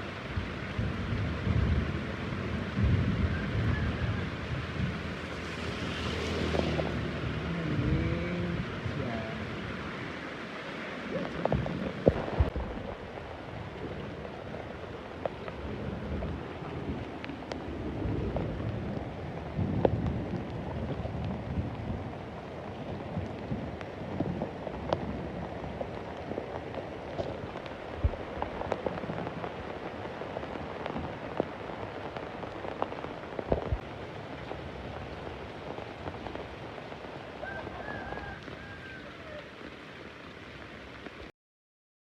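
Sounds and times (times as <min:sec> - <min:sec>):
heavy rain falling: 0:00.0 - 0:41.3
sharp drips and splashes: 0:00.0 - 0:41.3.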